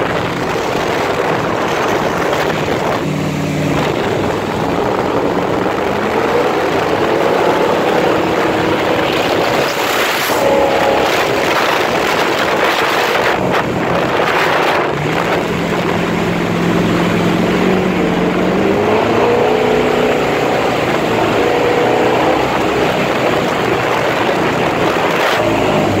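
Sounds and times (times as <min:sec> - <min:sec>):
motorboat engine running: 0:00.0 - 0:26.0
water rushing: 0:00.0 - 0:26.0.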